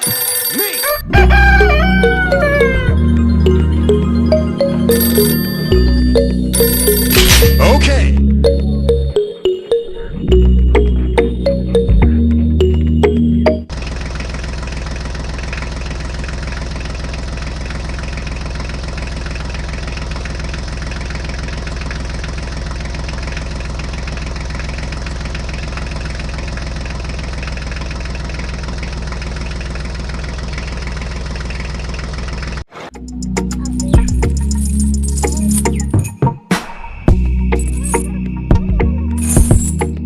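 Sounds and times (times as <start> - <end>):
tractor engine idling: 0.0 - 9.1, 10.3 - 35.9.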